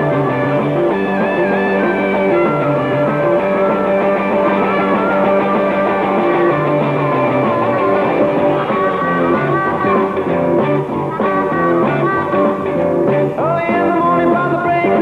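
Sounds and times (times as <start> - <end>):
harmonica bending notes: 0.0 - 15.0
rock band playing: 0.0 - 15.0.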